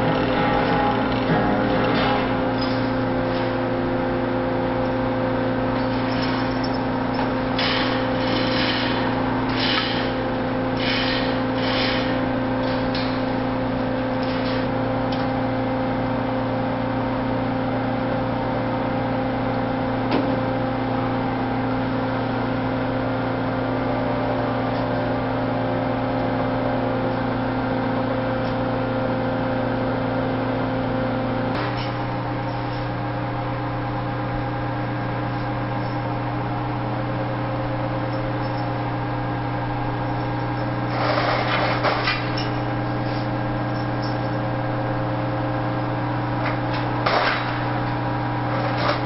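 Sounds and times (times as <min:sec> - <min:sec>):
large engine humming: 0:00.0 - 0:49.0.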